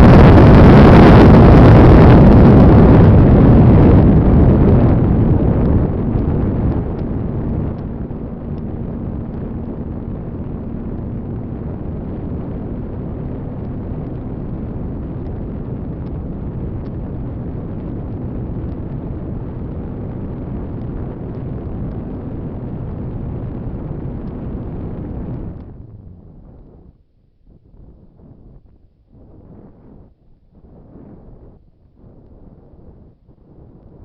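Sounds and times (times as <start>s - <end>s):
faint steady hum: 0.0s - 34.0s
wind rush on microphone: 0.0s - 34.0s.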